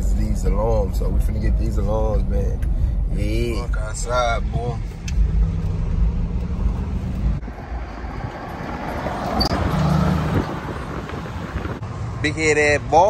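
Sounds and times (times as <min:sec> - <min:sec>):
outdoor traffic noise: 0:00.0 - 0:13.0
truck engine and road noise: 0:00.0 - 0:13.0.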